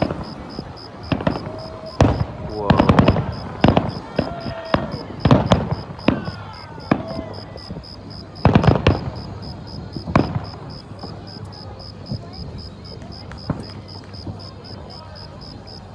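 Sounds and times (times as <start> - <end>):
fireworks bursting bangs: 0.0 - 15.9.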